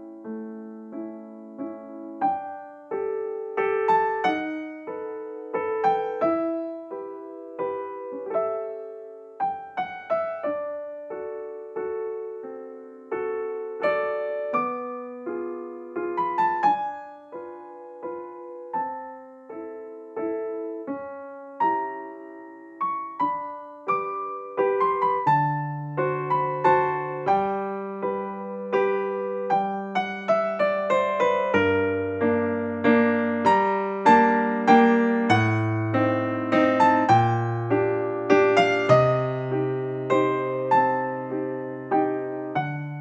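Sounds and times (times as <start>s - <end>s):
gentle solo piano melody: 0.0s - 43.0s.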